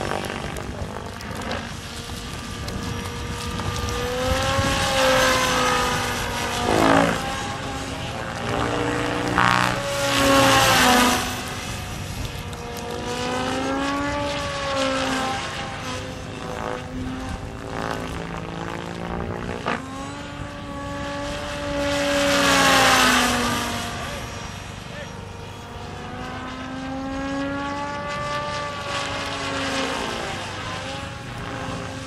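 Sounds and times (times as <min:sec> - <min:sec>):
rc helicopter rotor whine: 0:00.0 - 0:32.0.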